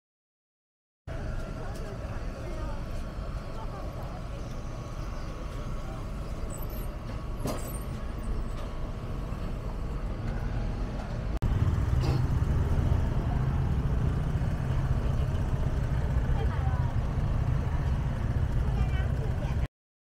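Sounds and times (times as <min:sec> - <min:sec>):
low rumbling background noise: 0:01.1 - 0:19.7.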